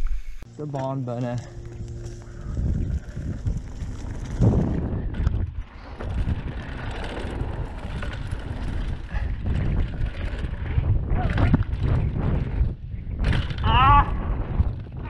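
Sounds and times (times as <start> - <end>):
bike knocking and rattling: 0.0 - 15.0
bike tyres on dirt trail: 0.0 - 15.0
wind buffeting microphone: 1.6 - 15.0.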